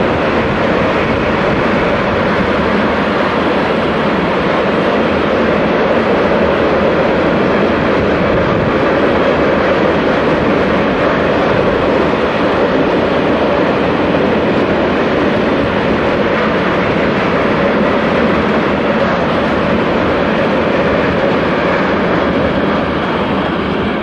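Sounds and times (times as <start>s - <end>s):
freight wagons rumbling on rails: 0.0s - 24.0s.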